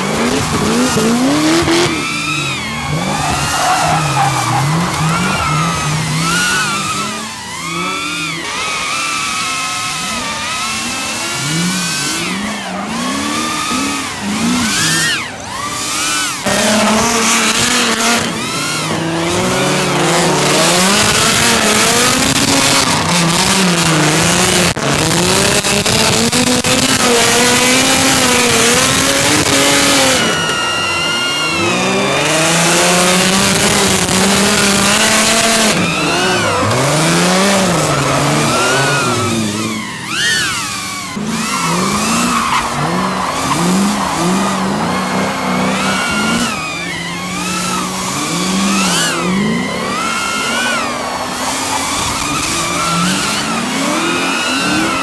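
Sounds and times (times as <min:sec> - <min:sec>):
car engines revving: 0:00.0 - 0:55.0
tyres squealing: 0:00.0 - 0:55.0.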